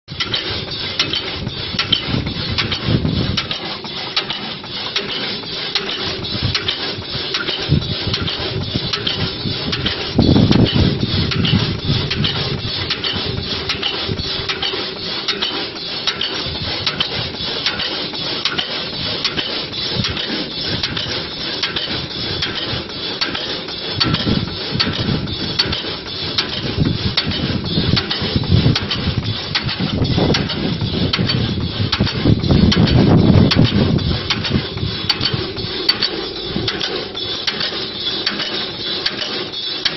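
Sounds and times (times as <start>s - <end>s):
wood wool machine clattering: 0.1s - 39.9s.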